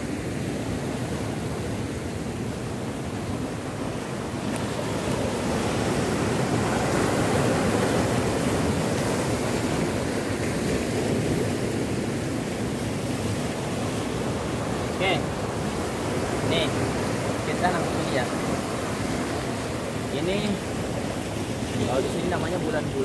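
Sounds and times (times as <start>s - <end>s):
surf breaking on rocks: 3.4s - 23.0s.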